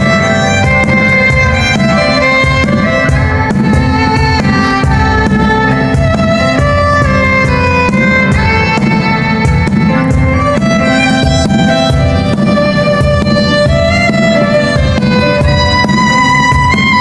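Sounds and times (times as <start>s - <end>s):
amplified violin melody: 0.0s - 17.0s
backing track with beat and bass: 0.0s - 17.0s.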